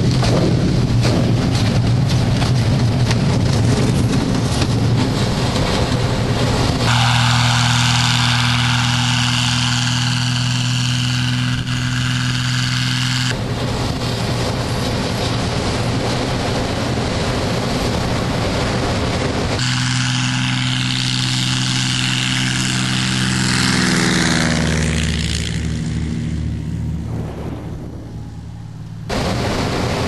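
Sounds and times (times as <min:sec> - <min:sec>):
propeller aircraft engine: 0:00.0 - 0:30.0
wind noise: 0:00.0 - 0:30.0.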